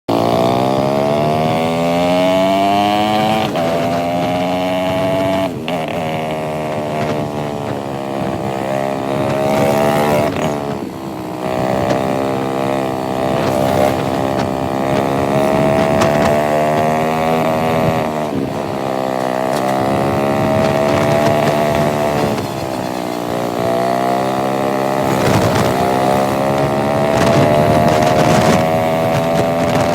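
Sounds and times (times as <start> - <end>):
motorcycle engine running: 0.1 - 29.9.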